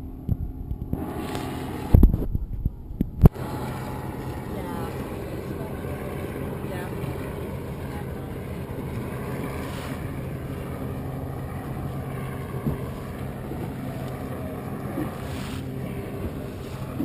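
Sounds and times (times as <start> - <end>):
motorboat engine humming: 0.0 - 17.0
wind buffeting microphone: 0.0 - 17.0.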